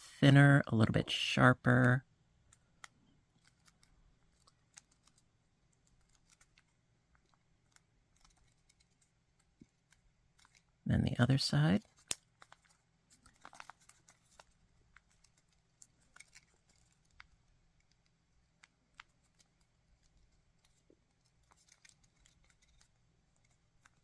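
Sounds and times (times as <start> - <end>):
paper being folded: 2.5 - 24.0.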